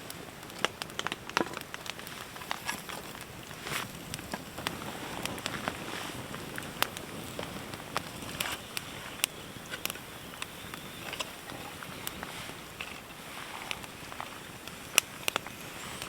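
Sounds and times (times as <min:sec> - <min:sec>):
campfire crackling and popping: 0:00.0 - 0:16.0
rain hissing: 0:00.0 - 0:16.0.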